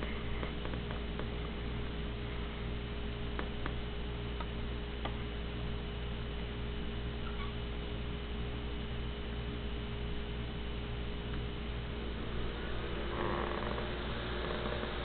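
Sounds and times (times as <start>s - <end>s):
electrical hum with pulsing throb: 0.0s - 15.0s.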